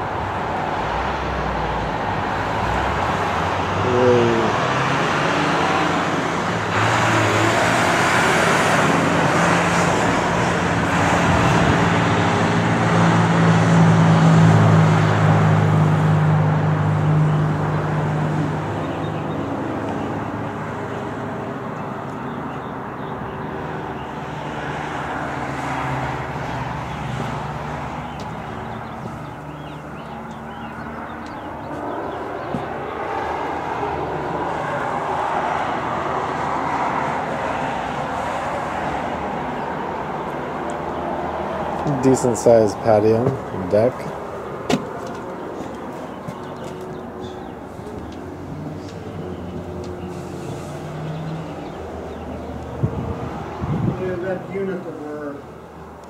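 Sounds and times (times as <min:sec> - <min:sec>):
road traffic: 0:00.0 - 0:56.0
vehicle engine drone: 0:00.0 - 0:56.0.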